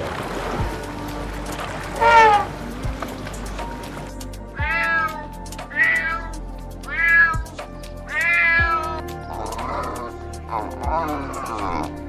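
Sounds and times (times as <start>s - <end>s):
background music with low beat: 0.1s - 12.0s.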